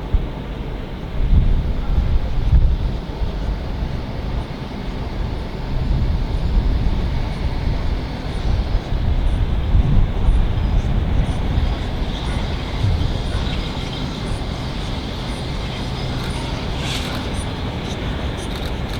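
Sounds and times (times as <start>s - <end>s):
train rumbling: 0.0s - 18.9s
wind noise on microphone: 0.0s - 18.9s.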